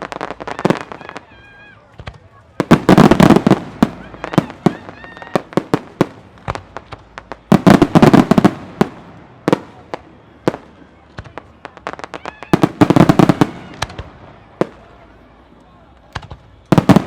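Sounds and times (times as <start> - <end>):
firework bangs and cracks: 0.0 - 14.9, 16.0 - 17.0
rapid firework crackling: 0.0 - 15.0, 16.0 - 17.0.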